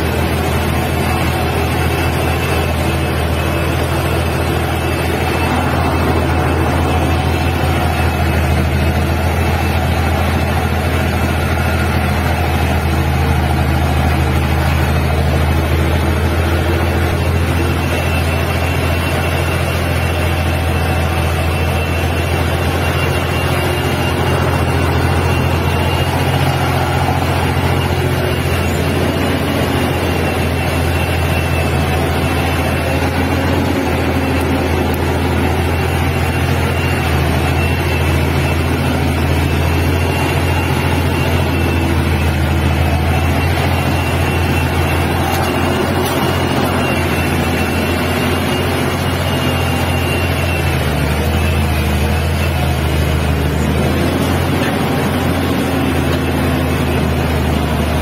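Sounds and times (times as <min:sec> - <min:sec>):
heavy diesel engines under load: 0:00.0 - 0:58.0
thin high whine: 0:00.0 - 0:58.0.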